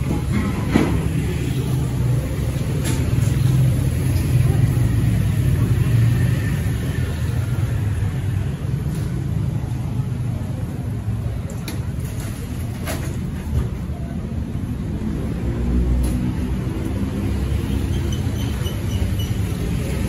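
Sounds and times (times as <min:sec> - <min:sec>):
vehicles passing on city street: 0:00.0 - 0:20.0.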